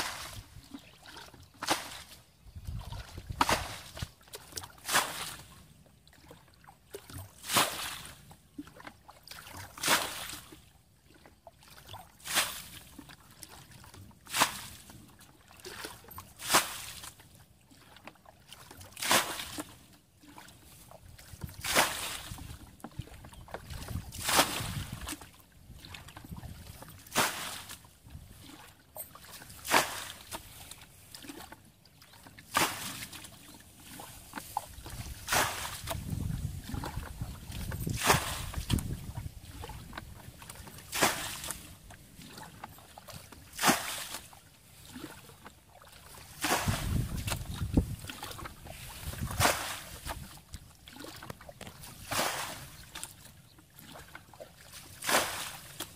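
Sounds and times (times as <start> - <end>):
water splashing from bucket: 0.0 - 2.2, 2.8 - 5.5, 6.2 - 17.2, 17.9 - 53.2, 53.8 - 55.9.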